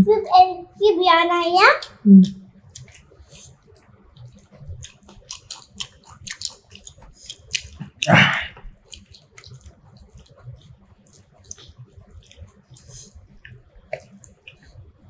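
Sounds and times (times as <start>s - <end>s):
wet chewing: 1.8s - 15.0s.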